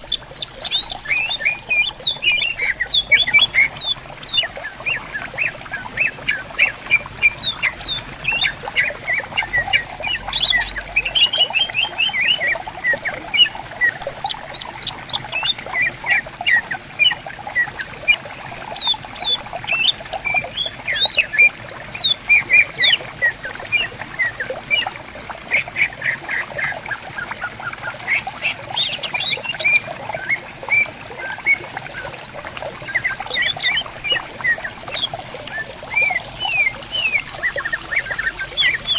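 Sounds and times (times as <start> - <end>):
birds singing and chirping: 0.0 - 38.9
stream trickling: 0.0 - 38.9.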